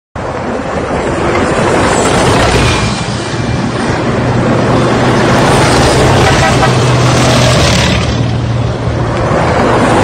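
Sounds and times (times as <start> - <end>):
road and wind noise: 0.2 - 10.0
tracked vehicles passing: 0.2 - 10.0.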